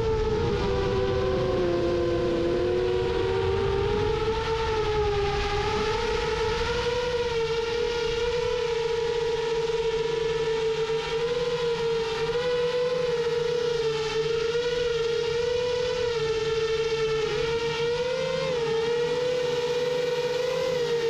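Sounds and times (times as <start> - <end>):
drone propellers whining: 0.0 - 21.0
low wind rumble: 0.0 - 21.0.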